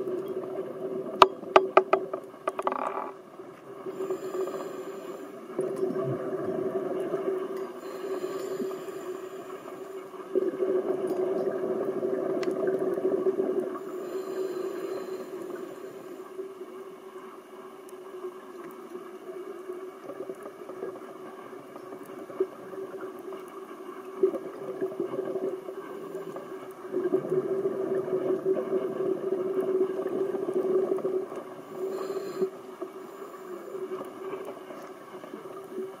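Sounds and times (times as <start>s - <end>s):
underwater droning hum: 0.0s - 36.0s.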